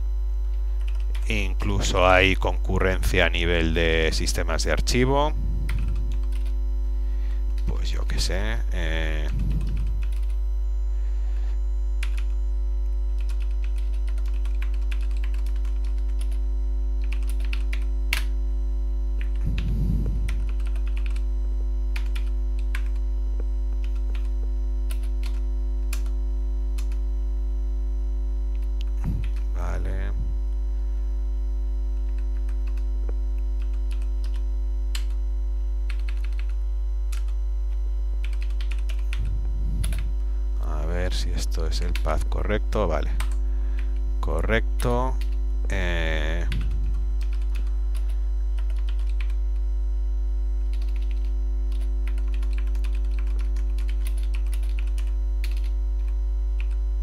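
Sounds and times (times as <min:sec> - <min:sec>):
loud electrical hum: 0:00.0 - 0:57.0.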